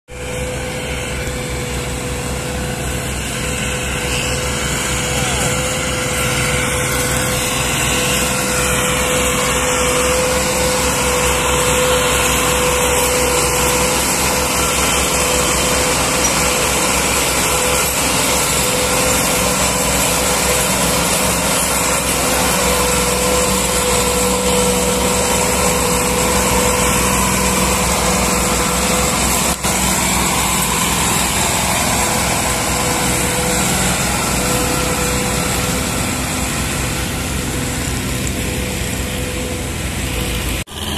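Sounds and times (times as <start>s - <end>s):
tractor diesel engine under load: 0.1s - 40.9s.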